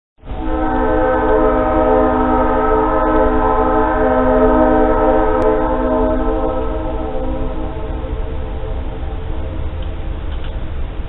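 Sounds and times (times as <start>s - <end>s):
distant train horn blast: 0.2s - 10.3s
low rumble: 0.2s - 11.0s.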